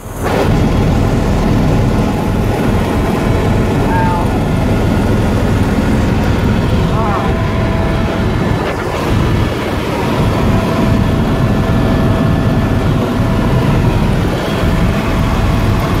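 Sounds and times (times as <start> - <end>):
faint steady whine: 0.0 - 16.0
helicopter engine and rotor drone: 0.0 - 16.0.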